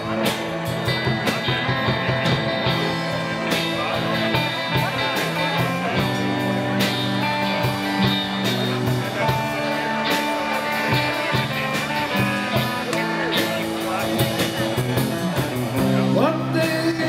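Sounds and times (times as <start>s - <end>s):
electric guitar held notes: 0.0s - 17.0s.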